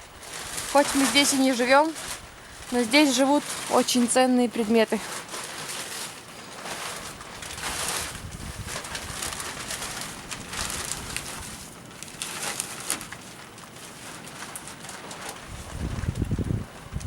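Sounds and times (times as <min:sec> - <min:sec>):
gusty wind rustling: 0:00.0 - 0:17.0.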